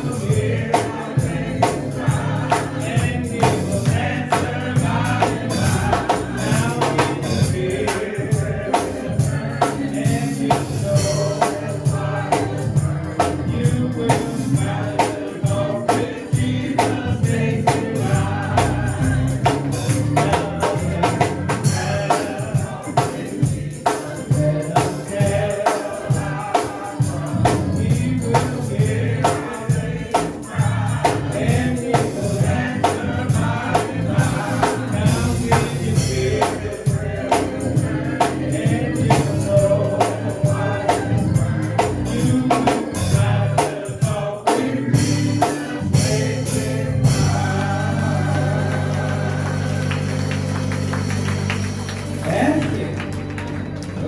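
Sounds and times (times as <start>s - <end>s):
tambourine strokes: 0.0s - 53.0s
gospel choir singing with band: 0.0s - 54.0s.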